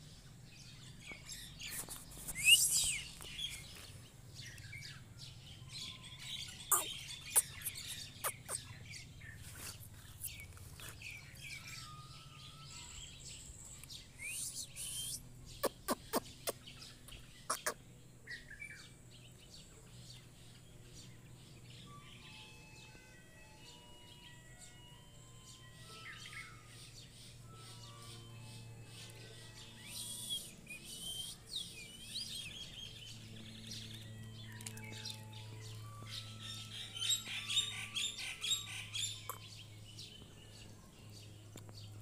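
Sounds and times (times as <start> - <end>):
birds chirping and calling: 0.0 - 24.2, 25.4 - 42.0.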